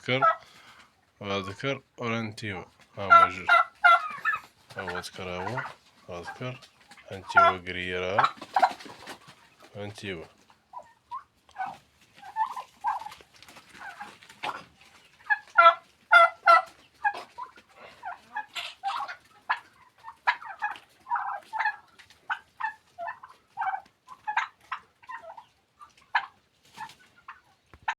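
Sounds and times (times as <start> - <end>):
turkeys calling: 0.0 - 27.9.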